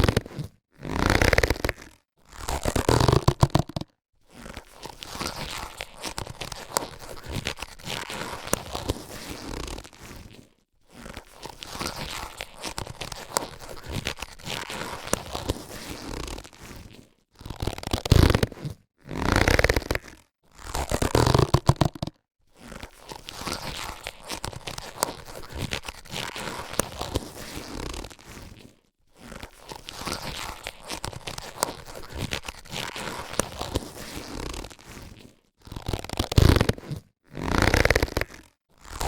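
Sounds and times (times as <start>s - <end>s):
latex gloves stretching and rubbing: 0.0s - 39.0s.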